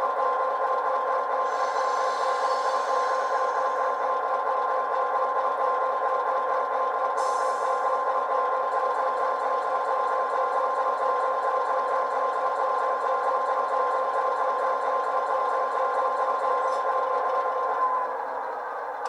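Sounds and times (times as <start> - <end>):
diesel locomotive engine running: 0.0 - 19.0.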